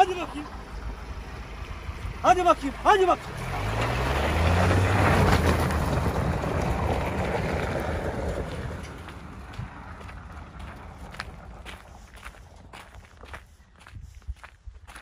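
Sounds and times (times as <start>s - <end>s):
pickup truck engine driving away: 0.0s - 13.1s.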